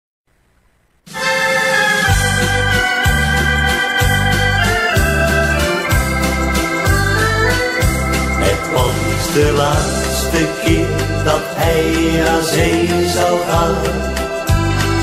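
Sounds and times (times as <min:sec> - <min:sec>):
sustained melody: 0:01.1 - 0:15.0
pulsing bass: 0:02.0 - 0:15.0.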